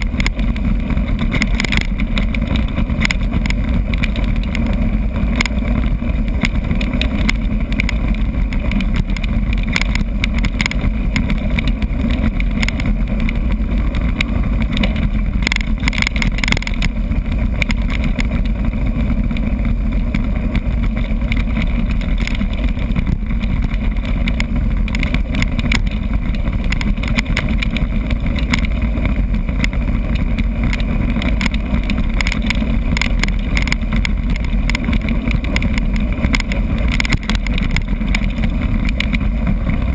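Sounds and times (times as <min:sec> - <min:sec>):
bike rattling over bumps: 0:00.0 - 0:39.9
bike tyres rumbling on dirt: 0:00.0 - 0:39.9
wind noise on microphone: 0:00.0 - 0:39.9.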